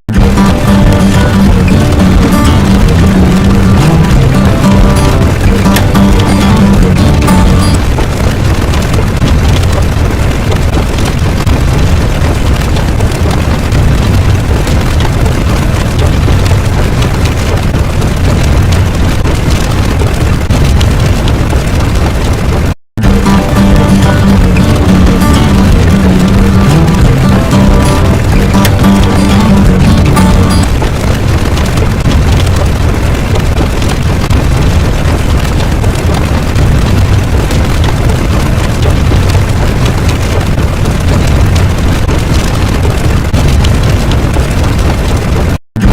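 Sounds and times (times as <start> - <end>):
loud low rumbling with hiss: 0.1 - 45.9.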